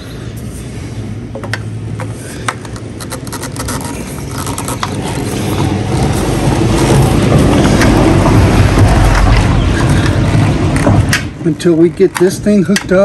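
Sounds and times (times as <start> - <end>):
low rumble: 0.0 - 11.6
plastic scraping and clicking: 1.4 - 11.3, 12.0 - 13.0.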